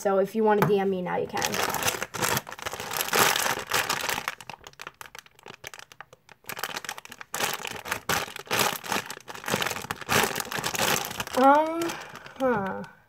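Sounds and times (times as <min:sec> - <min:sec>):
plastic bag crackling: 0:01.3 - 0:13.0.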